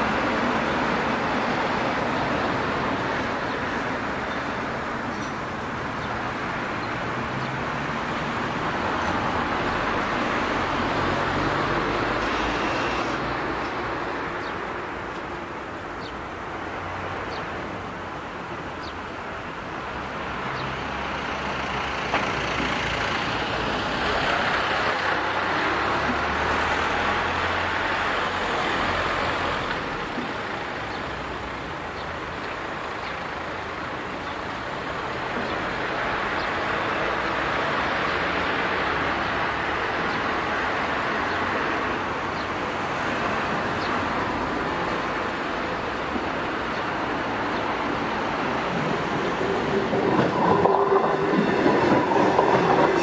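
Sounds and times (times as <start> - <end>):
road traffic engines humming: 0.0 - 53.0.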